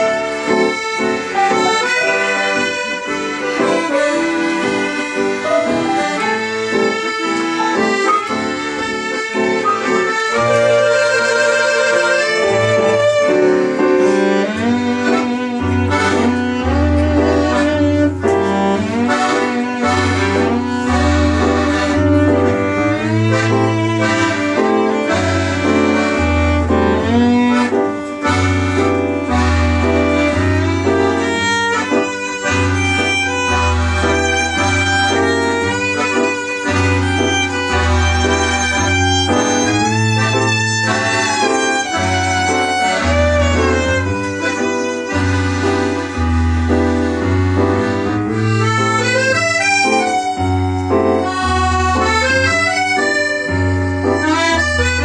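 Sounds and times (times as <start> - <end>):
instrumental music: 0.0 - 55.0.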